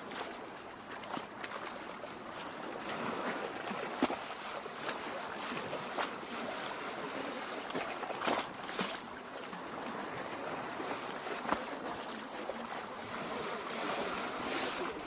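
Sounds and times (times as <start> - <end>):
small waves lapping: 0.0 - 15.0
water splashes: 0.0 - 15.0.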